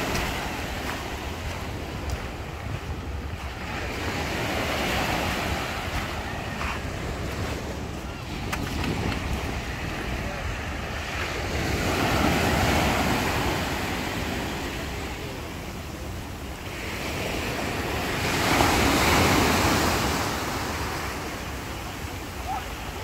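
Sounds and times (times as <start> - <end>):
waves washing on shingle beach: 0.0 - 23.0
wind rumble on microphone: 0.0 - 23.0.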